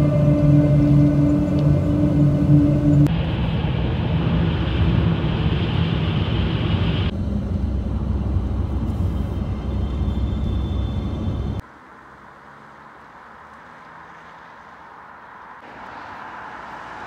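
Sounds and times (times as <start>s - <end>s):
car road noise inside cabin: 0.0s - 17.0s.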